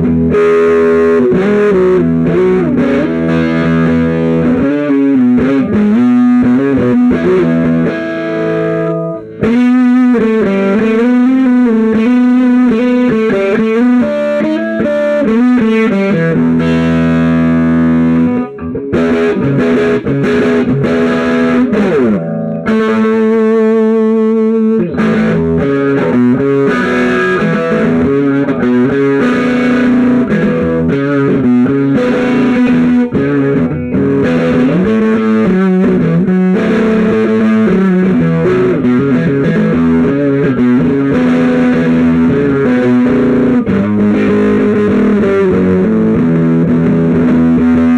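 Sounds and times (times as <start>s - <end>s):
electric guitar notes and chords: 0.0s - 47.9s.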